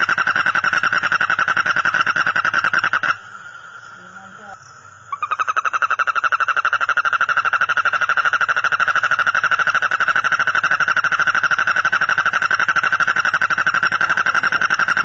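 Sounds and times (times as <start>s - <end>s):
frog trilling: 0.0s - 15.0s.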